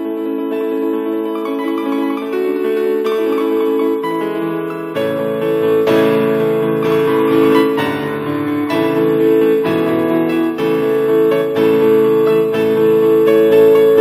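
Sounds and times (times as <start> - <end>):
keyboard playing sustained chords: 0.0 - 14.0.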